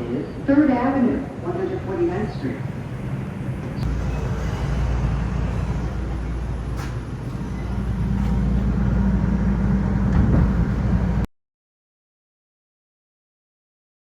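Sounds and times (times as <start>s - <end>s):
subway train rumbling: 0.0s - 11.3s.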